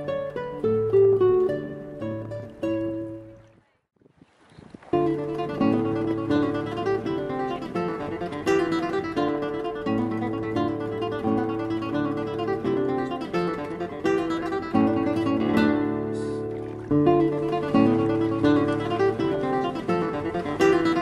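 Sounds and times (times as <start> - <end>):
acoustic guitar plucked chords: 0.0 - 3.5, 4.9 - 21.0.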